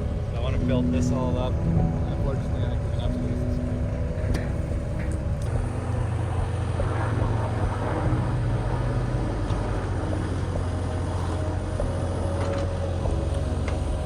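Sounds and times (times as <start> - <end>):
earth-moving machine engine: 0.0 - 14.0
faint clanks: 1.4 - 14.0.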